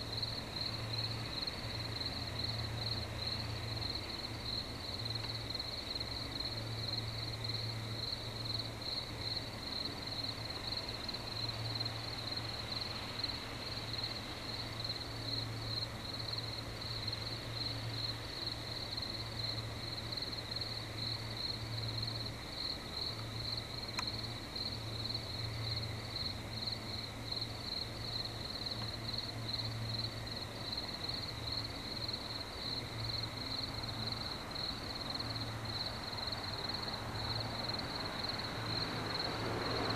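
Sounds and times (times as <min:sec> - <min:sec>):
night insects chirring: 0:00.0 - 0:39.9.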